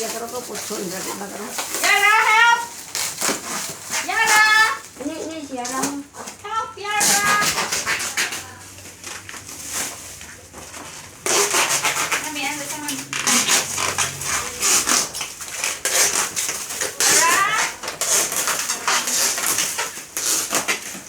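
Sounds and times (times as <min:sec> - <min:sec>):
packaging crackling and rustling: 0:00.0 - 0:21.0.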